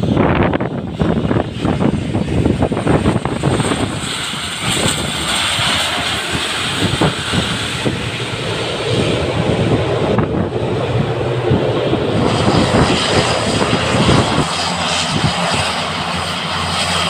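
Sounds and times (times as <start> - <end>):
turboprop aircraft engines: 0.0 - 17.0.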